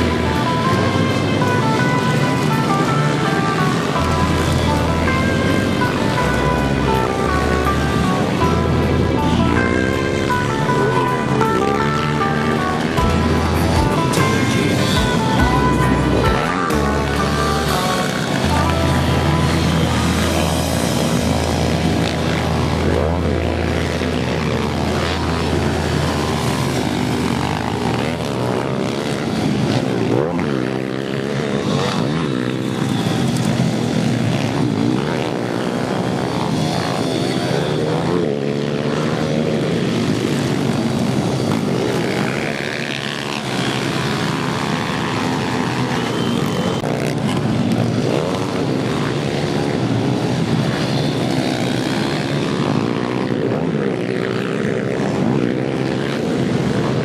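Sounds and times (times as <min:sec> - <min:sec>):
pit bike engines revving: 0:00.0 - 0:57.0.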